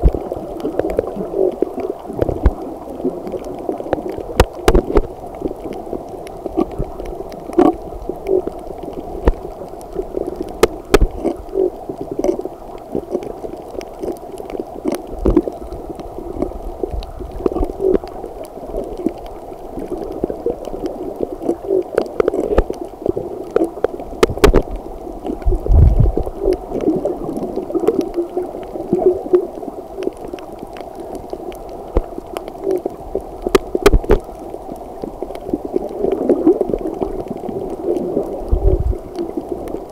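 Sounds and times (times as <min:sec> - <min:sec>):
underwater water wash: 0:00.0 - 0:39.9.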